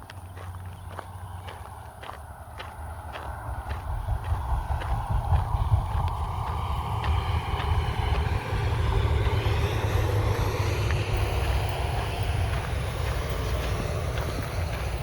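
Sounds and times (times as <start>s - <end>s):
faint footsteps: 0.0s - 15.0s
road traffic: 0.0s - 15.0s
wind rumble on microphone: 0.0s - 15.0s.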